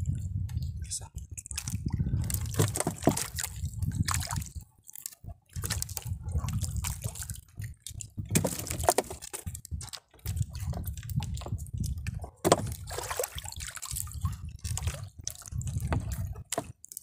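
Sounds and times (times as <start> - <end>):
water sloshing beside a boat: 0.0 - 17.0.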